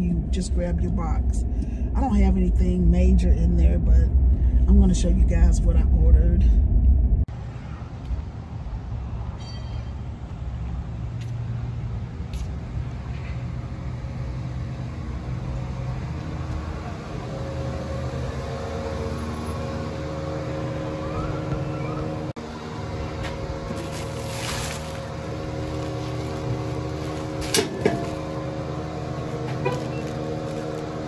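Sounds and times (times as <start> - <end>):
traffic and machinery rumble: 0.0 - 31.0.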